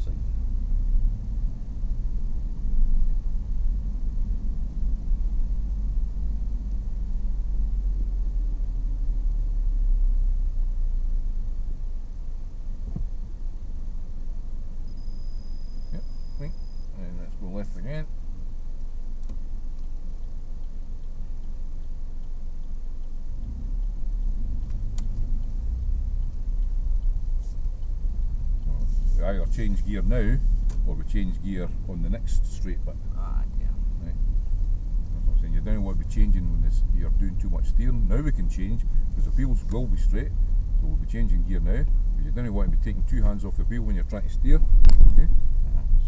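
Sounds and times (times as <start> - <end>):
car engine and tyres rumble: 0.0 - 46.0.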